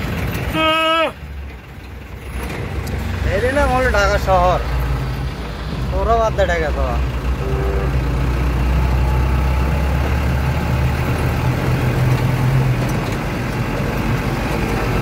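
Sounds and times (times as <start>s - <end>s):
road noise: 0.0s - 15.0s
truck engine droning: 0.0s - 15.0s.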